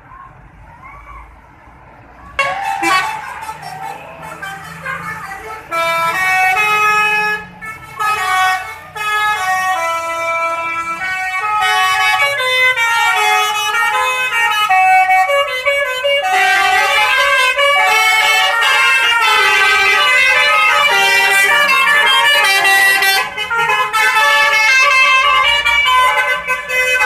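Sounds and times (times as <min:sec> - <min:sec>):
musical bus horn tune: 0:02.4 - 0:27.0.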